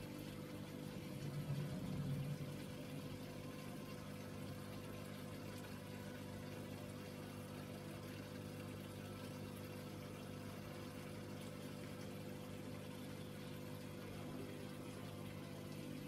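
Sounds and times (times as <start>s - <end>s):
aquarium pump humming: 0.0s - 16.0s
faint moving water: 0.0s - 16.0s.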